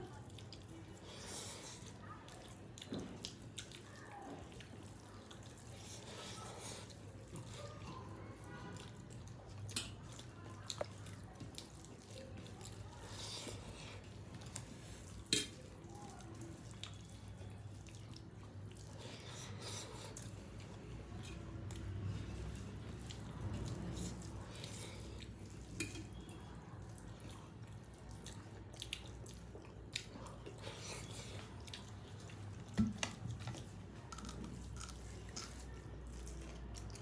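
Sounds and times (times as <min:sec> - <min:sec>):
wet chewing and mouth smacks: 0:00.0 - 0:37.0.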